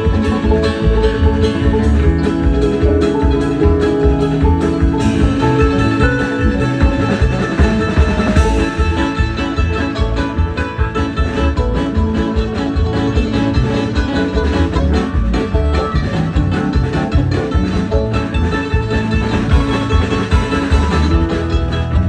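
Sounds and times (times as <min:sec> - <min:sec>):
acoustic string band playing: 0:00.0 - 0:22.0.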